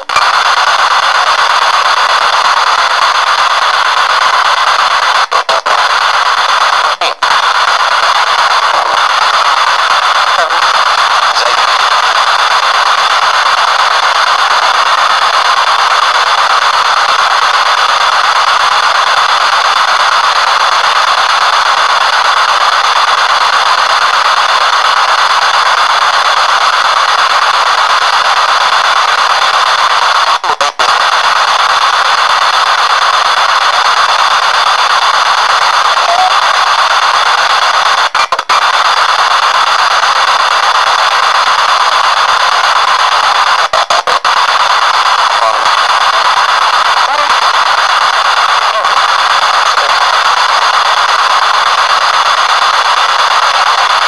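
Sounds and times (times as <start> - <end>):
radio static: 0.0 - 54.0.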